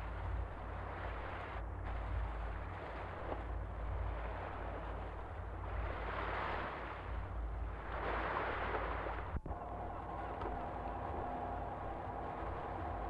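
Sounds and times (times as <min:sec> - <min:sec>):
boat engine low rumble: 0:00.0 - 0:13.0
wind rushing over microphone: 0:00.0 - 0:13.0.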